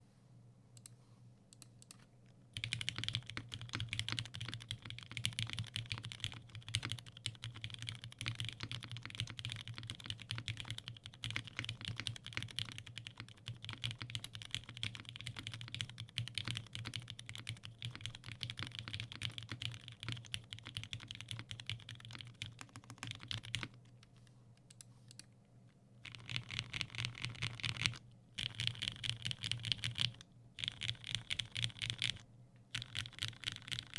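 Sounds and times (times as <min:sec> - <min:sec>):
mechanical keyboard typing: 0:02.6 - 0:24.0, 0:26.0 - 0:33.9.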